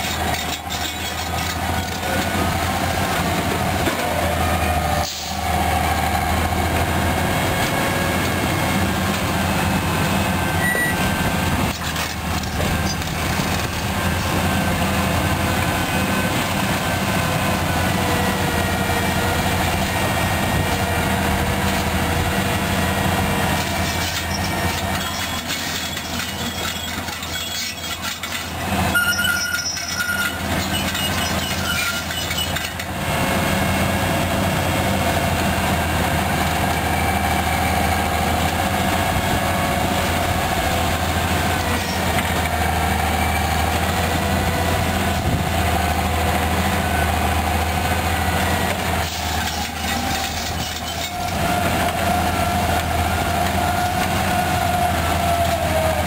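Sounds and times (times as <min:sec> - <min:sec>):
diesel engines humming: 0:00.0 - 0:56.0.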